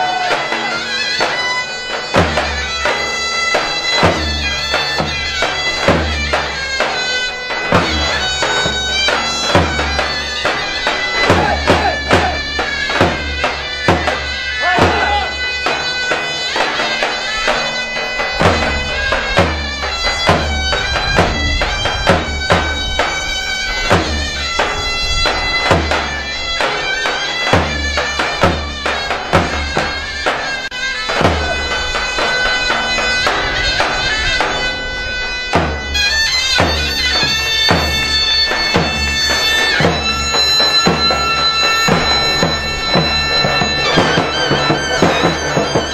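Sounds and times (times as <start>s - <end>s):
heavy drum strokes: 0.0s - 45.9s
shrill double-reed melody: 0.0s - 45.9s.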